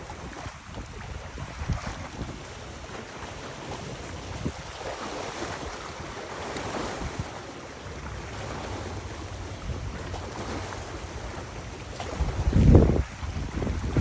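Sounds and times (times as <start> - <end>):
water rushing: 0.0 - 14.0
wind gusting across microphone: 0.0 - 14.0.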